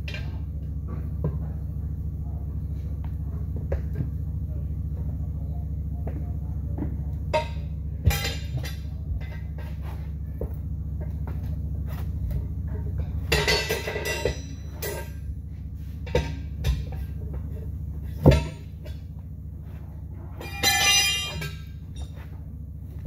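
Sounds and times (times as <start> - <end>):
steady low hum: 0.0 - 23.0
tire irons clanking on wheel rim: 0.0 - 23.0.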